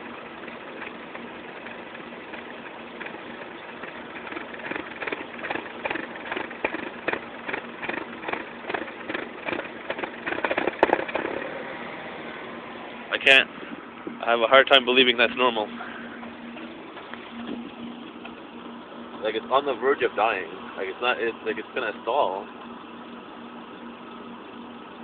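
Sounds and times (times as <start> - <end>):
car engine idling roughly: 0.0 - 25.0.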